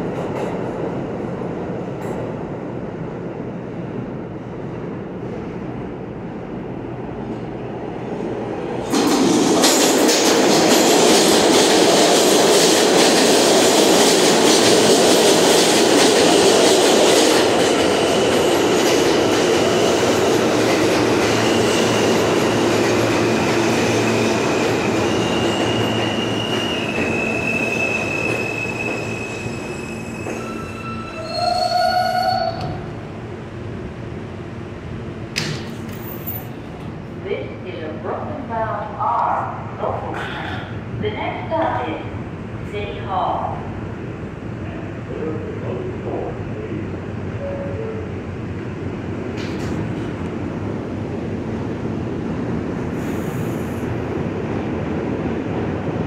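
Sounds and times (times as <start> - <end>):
subway train arriving: 0.0 - 56.0.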